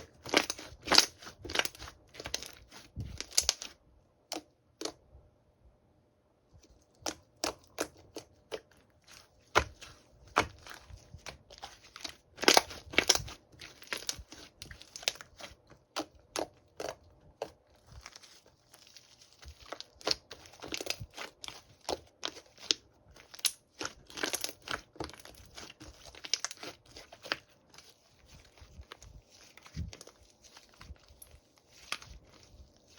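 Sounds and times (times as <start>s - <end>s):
crunching and crackling clicks: 0.0s - 5.0s, 6.6s - 32.9s.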